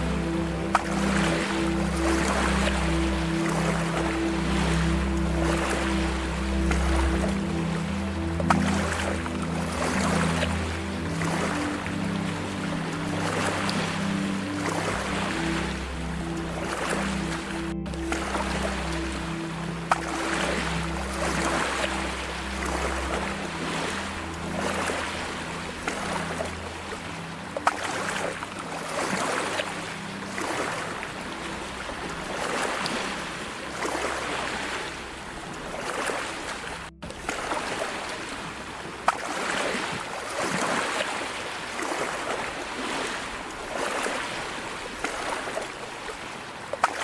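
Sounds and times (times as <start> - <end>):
low steady hum: 0.0 - 39.2
sea waves lapping: 0.0 - 47.0.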